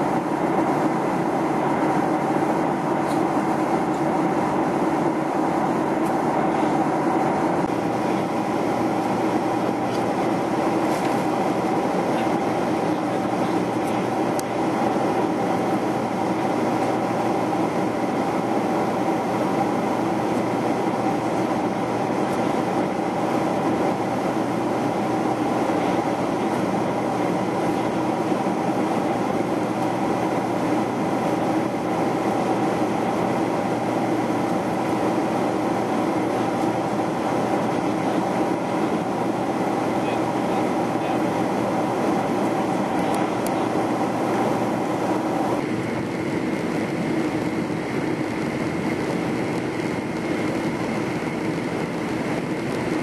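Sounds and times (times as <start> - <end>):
jet engine roar and airflow: 0.0 - 53.0
steady low hum: 0.0 - 53.0.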